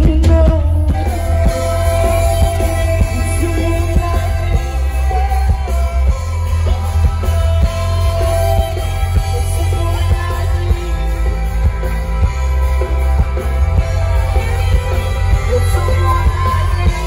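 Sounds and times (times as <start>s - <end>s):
heavy bass: 0.0s - 17.0s
live rock band playing: 0.0s - 17.0s
person singing: 0.0s - 17.0s
steady drum beat: 0.0s - 17.0s.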